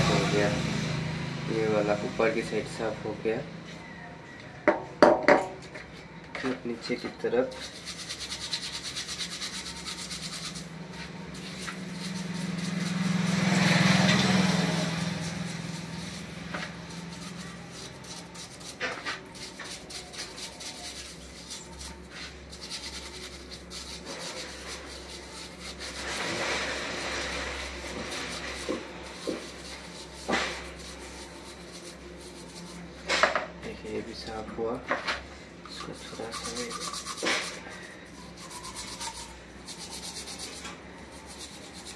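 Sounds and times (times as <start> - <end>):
brush scrubbing metal part: 6.9 - 34.3, 35.7 - 41.9.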